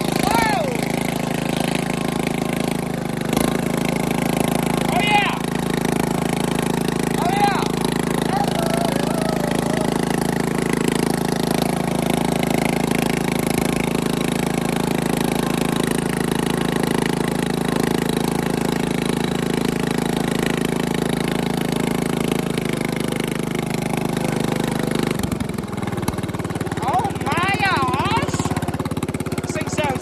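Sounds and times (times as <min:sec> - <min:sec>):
riding mower engine running: 0:00.0 - 0:30.0.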